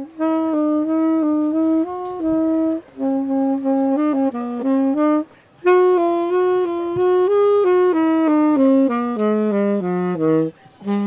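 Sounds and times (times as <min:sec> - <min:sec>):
saxophone melody: 0:00.0 - 0:11.0.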